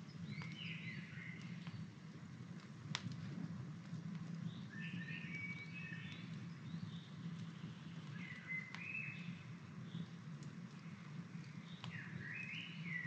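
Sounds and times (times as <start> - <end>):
small birds twittering: 0.0 - 1.9, 4.4 - 13.0
campfire wood snapping: 0.0 - 13.0.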